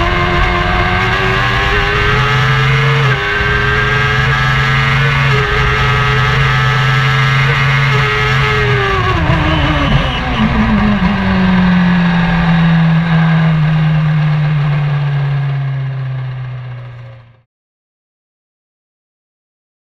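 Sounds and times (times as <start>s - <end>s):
race car engine at high revs: 0.0s - 17.4s.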